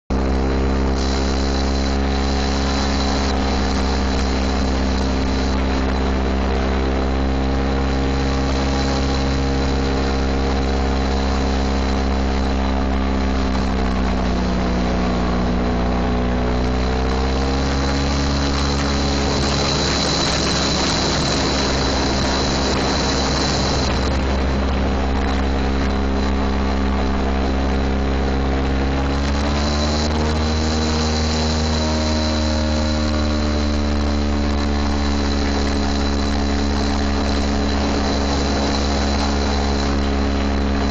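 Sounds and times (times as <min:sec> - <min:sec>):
off-road vehicle engine running: 0:00.1 - 0:40.9.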